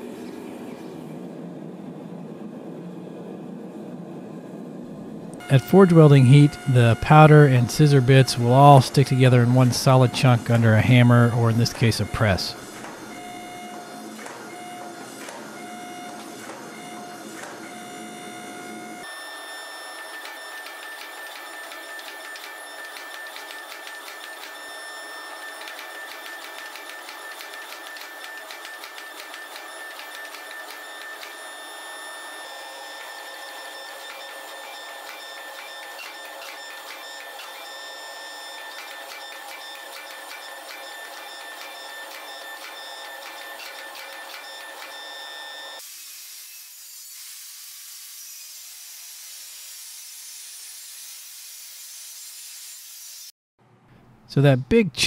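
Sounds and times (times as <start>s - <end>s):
hydraulic press whine and rattle: 0.0s - 45.9s.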